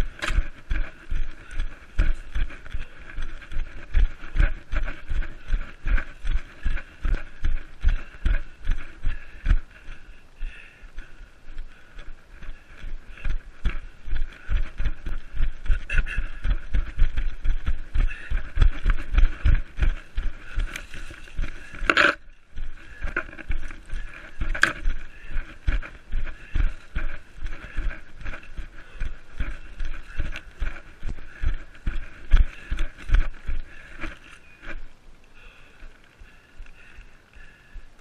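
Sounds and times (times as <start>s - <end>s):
running footsteps on forest ground: 0.0s - 38.0s
undergrowth rustling: 0.0s - 38.0s.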